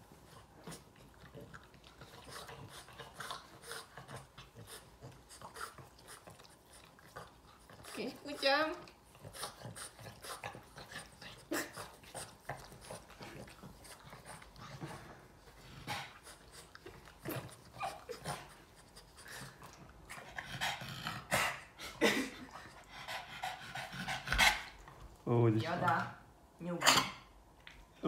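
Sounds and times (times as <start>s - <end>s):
dog panting: 0.0s - 26.1s.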